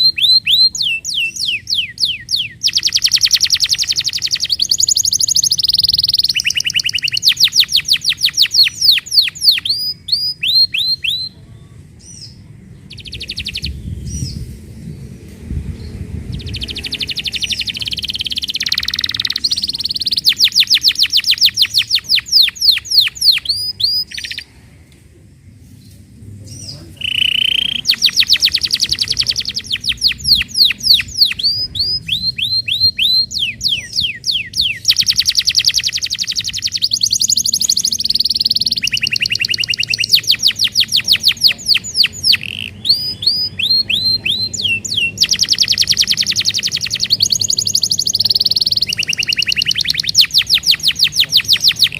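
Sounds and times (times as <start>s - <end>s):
canary singing trills: 0.0s - 24.6s, 26.4s - 51.9s.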